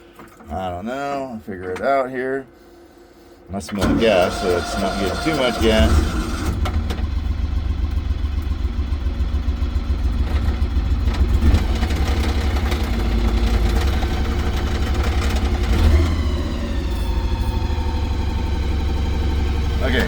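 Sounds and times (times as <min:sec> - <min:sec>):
small gasoline engine idling: 0:03.8 - 0:20.0.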